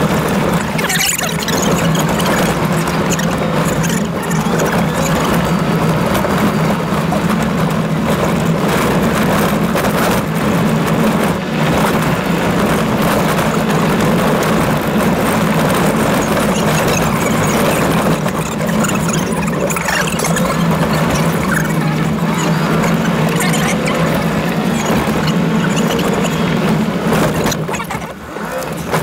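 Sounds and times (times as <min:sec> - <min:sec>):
car engine drone: 0:00.0 - 0:29.0
tyres on gravel road: 0:00.0 - 0:29.0
knocks and rattles: 0:00.1 - 0:29.0.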